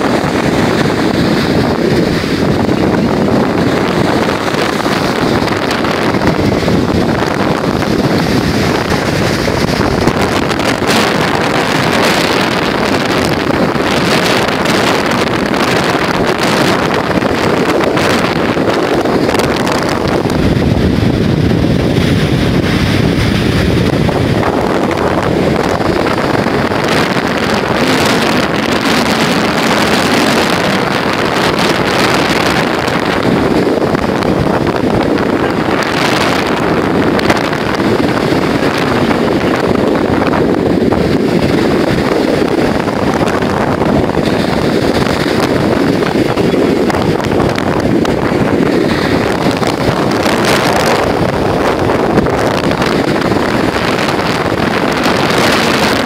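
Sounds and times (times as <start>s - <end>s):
surf breaking on beach: 0.0s - 56.0s
wind buffeting microphone: 0.0s - 56.0s.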